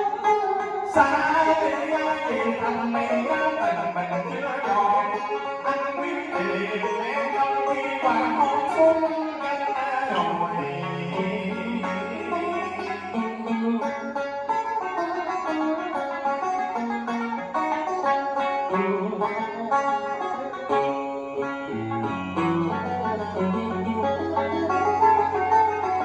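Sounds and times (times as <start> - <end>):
plucked-string melody: 0.0 - 26.0.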